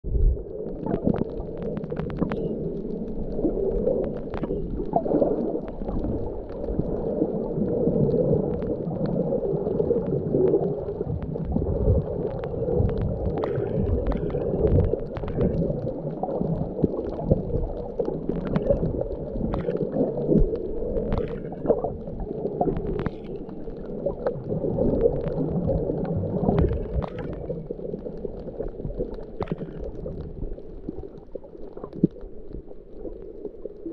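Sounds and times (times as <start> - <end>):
underwater water rumble: 0.0 - 33.9
clicks and gurgles: 0.1 - 33.9.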